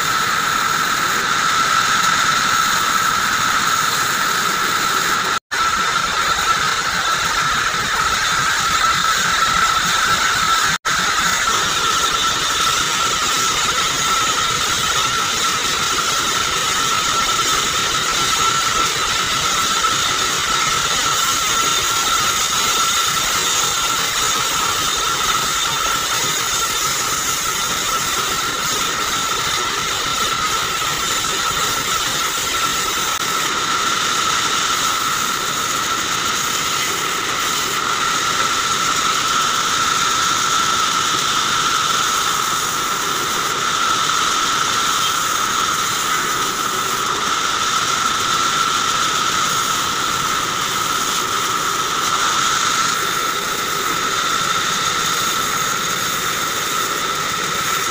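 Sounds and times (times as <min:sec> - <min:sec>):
bandsaw whining: 0:00.0 - 0:57.9.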